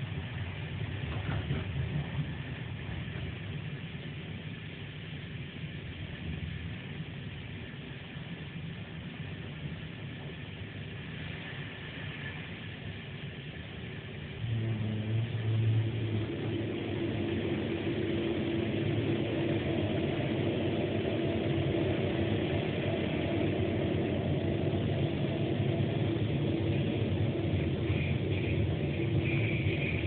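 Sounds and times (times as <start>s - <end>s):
train rumble inside carriage: 0.0s - 30.0s.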